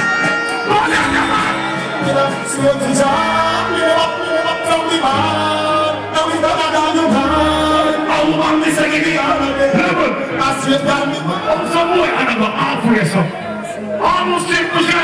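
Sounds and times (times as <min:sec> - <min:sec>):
loud music with singing voice: 0:00.0 - 0:15.0.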